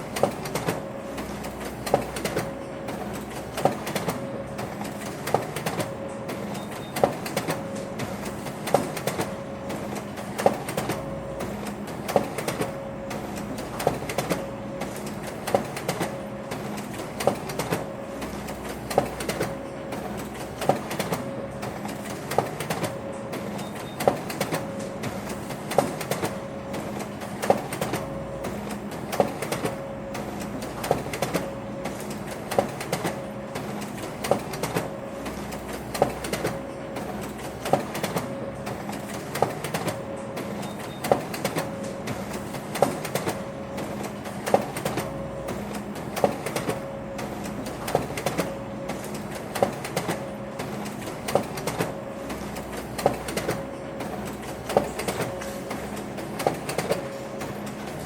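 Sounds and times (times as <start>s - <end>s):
office printer running: 0.0s - 58.0s.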